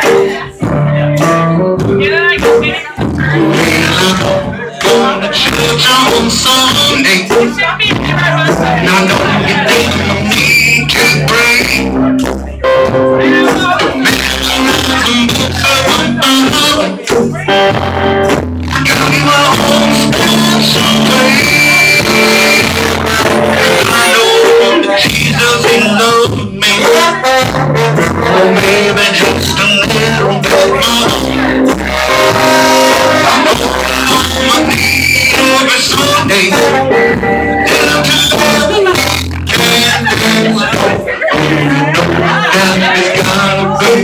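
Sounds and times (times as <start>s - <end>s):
bass guitar: 0.0s - 44.0s
electric guitar: 0.0s - 44.0s
live band playing blues-rock: 0.0s - 44.0s.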